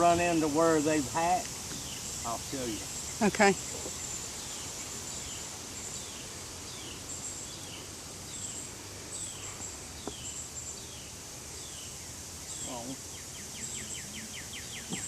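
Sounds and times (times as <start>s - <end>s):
pulsing insect trill: 0.0s - 15.0s.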